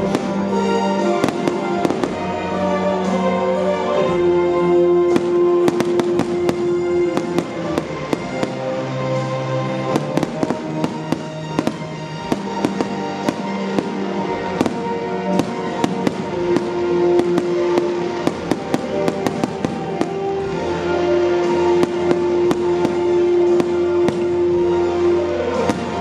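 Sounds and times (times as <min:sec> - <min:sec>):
fireworks bursting and crackling: 0:00.0 - 0:03.4, 0:04.2 - 0:26.0
loud music with held notes: 0:00.0 - 0:26.0.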